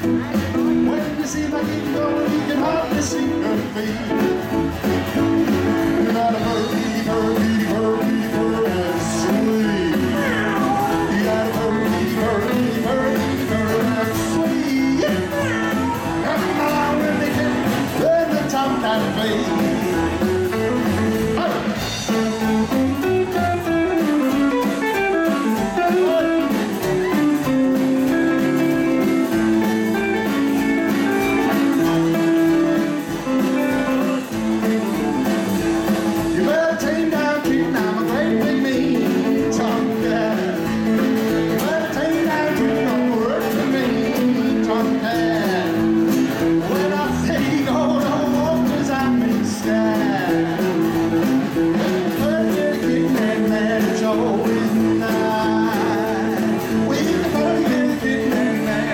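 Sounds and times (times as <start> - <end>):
live rockabilly band: 0.0 - 58.9.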